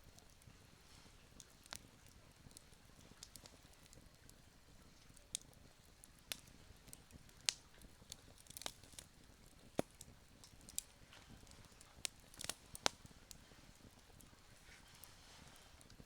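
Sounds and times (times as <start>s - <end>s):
campfire crackling and popping: 0.0s - 16.0s
soft steady hiss: 0.0s - 16.0s.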